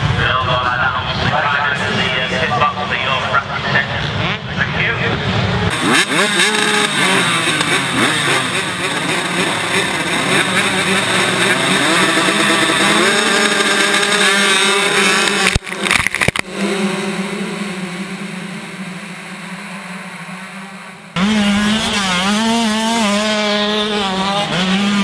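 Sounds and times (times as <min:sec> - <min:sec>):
motocross bikes revving: 0:00.0 - 0:25.0.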